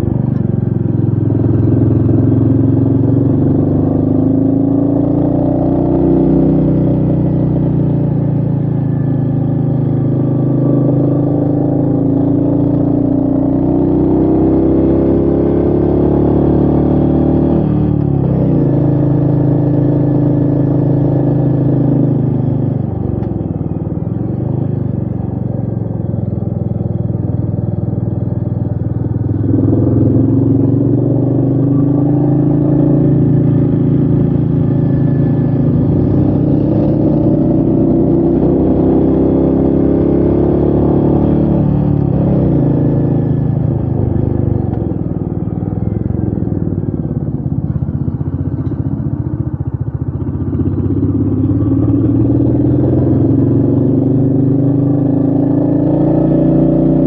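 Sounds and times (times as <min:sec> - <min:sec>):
motorcycle engine pulling uphill: 0:00.0 - 0:57.0.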